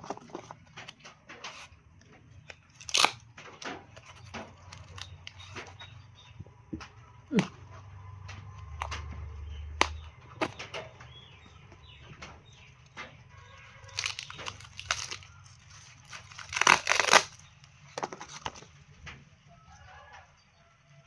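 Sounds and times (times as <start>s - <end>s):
rustling and crackling handling noise: 0.0s - 20.2s.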